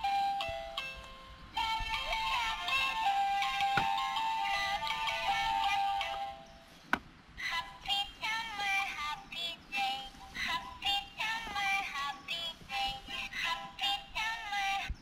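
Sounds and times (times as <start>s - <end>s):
synthetic voice singing a melody: 1.6s - 6.3s, 7.4s - 15.0s.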